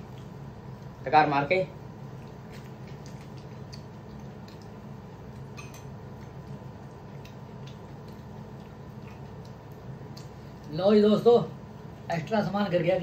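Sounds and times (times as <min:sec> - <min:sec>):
chewing and fingers in rice: 0:00.0 - 0:01.0, 0:01.8 - 0:12.3
steady low hum: 0:00.0 - 0:13.0.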